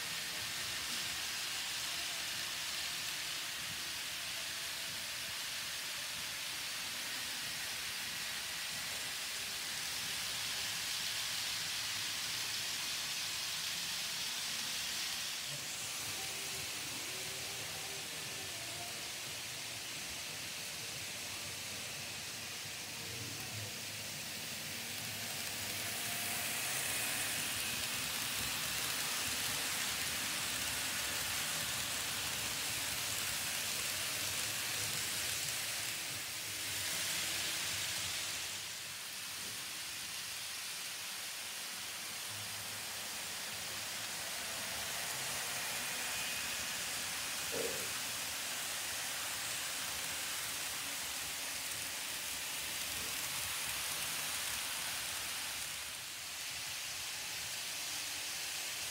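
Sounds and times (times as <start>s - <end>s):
model trains whirring on rails: 0.0s - 58.9s.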